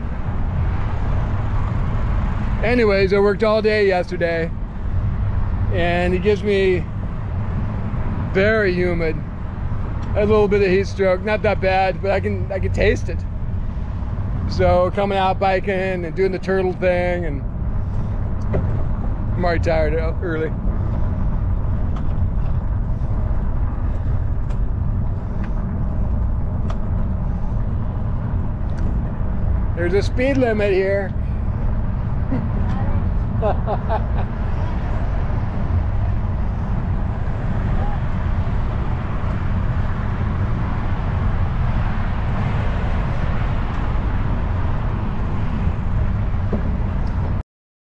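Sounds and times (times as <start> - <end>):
wind buffeting microphone: 0.0 - 47.4.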